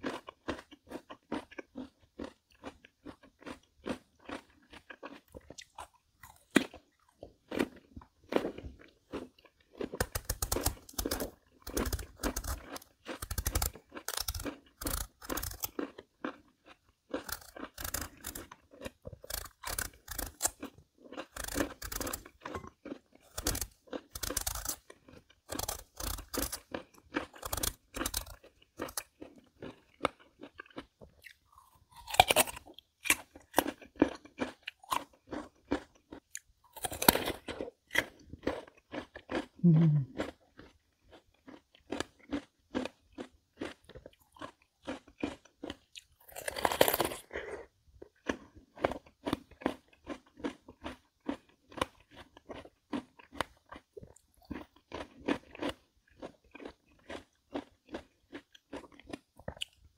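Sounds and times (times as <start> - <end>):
melon crunching being chewed: 0.0 - 59.9.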